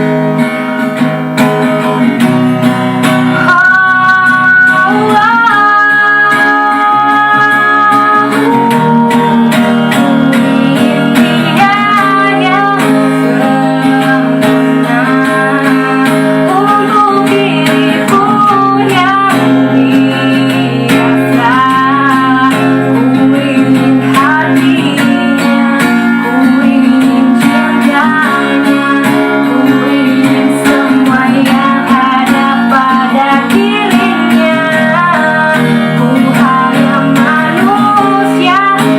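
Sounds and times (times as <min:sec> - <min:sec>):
guitar accompaniment: 0:00.0 - 0:38.9
person singing: 0:00.0 - 0:38.9.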